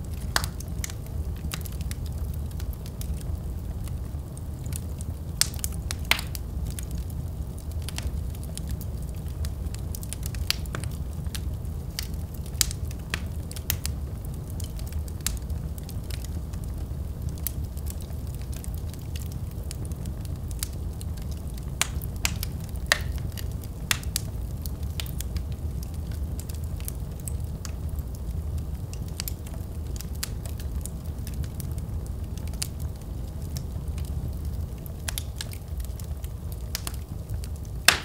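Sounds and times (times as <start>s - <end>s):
low rumble of flames: 0.0s - 38.0s
wood fire crackling and popping: 0.0s - 38.0s.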